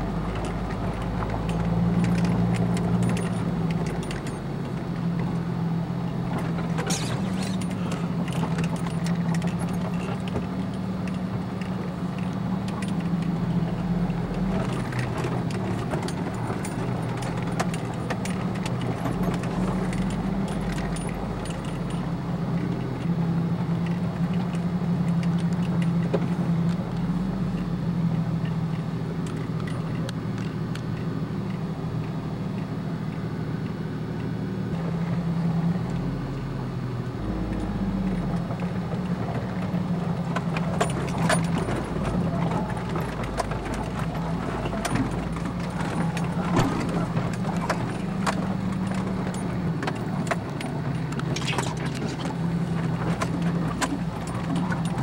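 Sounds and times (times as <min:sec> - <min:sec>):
engine running at low speed: 0:00.0 - 0:55.0.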